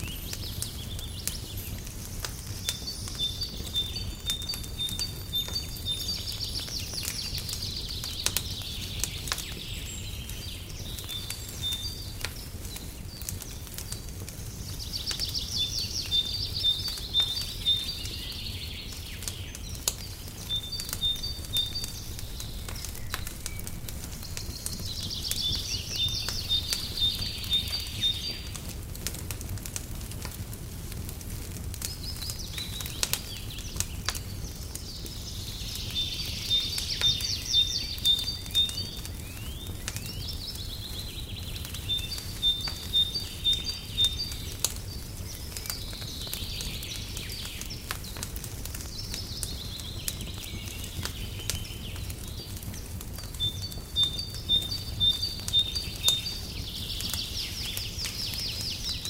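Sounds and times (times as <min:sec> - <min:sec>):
birds singing trilled notes: 0:00.0 - 0:29.5, 0:31.6 - 0:59.0
wood fire crackling: 0:00.0 - 0:59.0.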